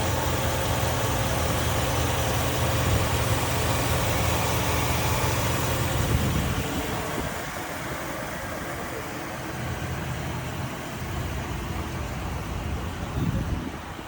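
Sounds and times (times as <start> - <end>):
pickup engine idling: 0.0 - 14.0.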